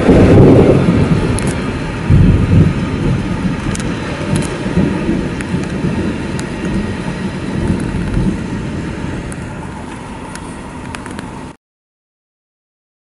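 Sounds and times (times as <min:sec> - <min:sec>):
train wheels rumbling on rail: 0:00.0 - 0:11.6.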